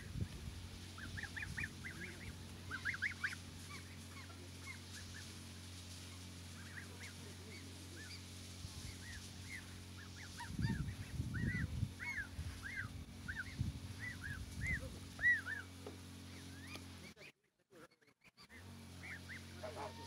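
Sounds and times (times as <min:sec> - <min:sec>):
goslings peeping: 0:00.0 - 0:20.0.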